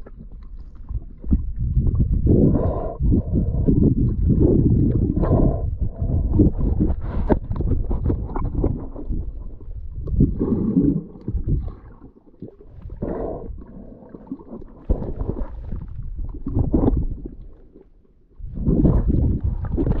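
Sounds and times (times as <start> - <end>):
muffled underwater rumbling: 0.0 - 20.0.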